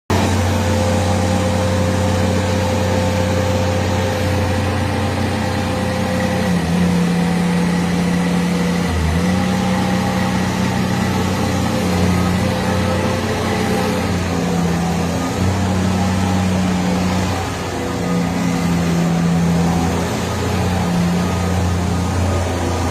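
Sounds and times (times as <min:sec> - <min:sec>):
loader engine running: 0:00.1 - 0:22.9.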